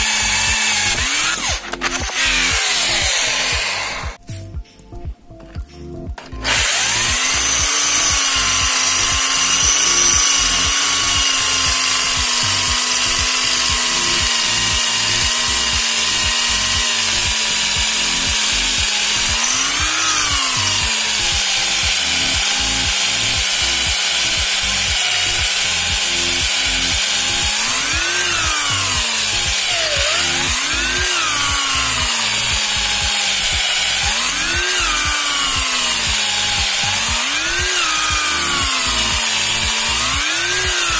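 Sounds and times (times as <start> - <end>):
electric drill boring into steel: 0.0 - 4.2, 6.4 - 40.9.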